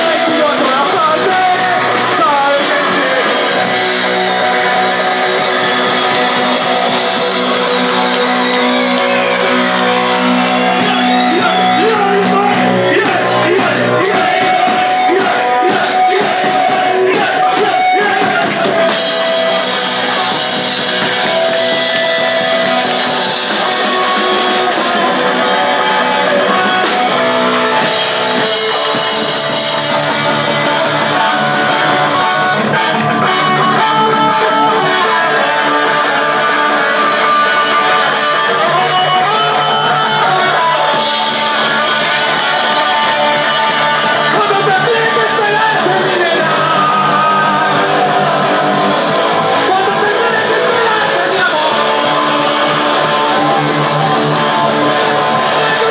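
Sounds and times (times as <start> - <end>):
loud electric guitars: 0.0 - 55.9
punk rock band playing live: 0.0 - 55.9.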